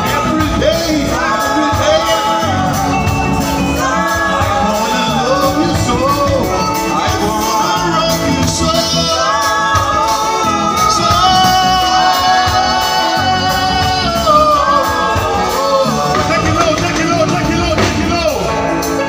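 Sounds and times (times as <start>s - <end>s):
bass guitar: 0.0s - 19.0s
drums: 0.0s - 19.0s
electric guitar: 0.0s - 19.0s
horn: 0.0s - 19.0s.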